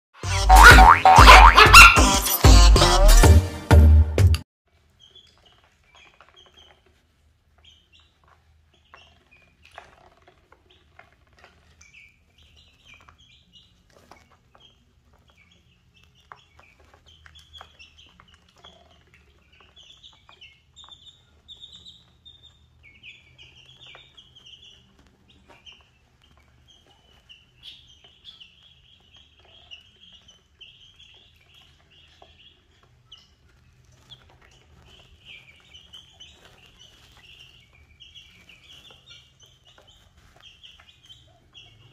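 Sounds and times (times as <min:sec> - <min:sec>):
chicks peeping: 0:00.2 - 0:02.6, 0:04.7 - 0:41.9
beaks pecking plastic tray: 0:04.7 - 0:41.9.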